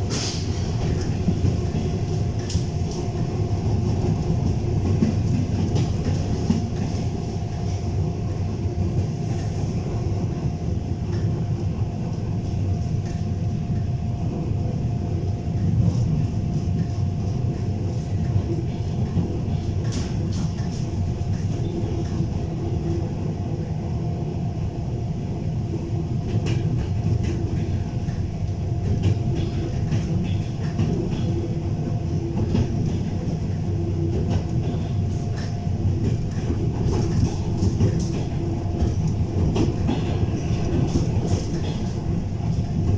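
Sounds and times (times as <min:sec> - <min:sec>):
train carriage rumble: 0:00.0 - 0:42.9.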